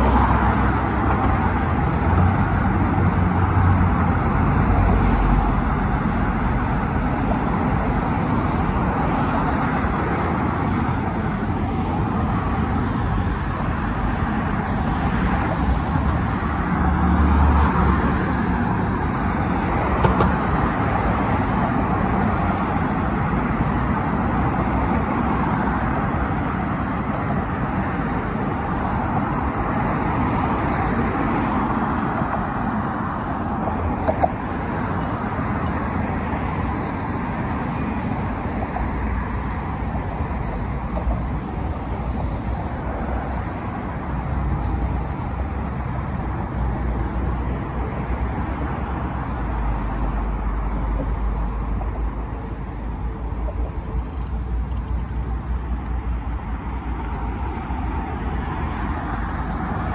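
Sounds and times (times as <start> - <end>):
cars passing by: 0.0 - 59.9.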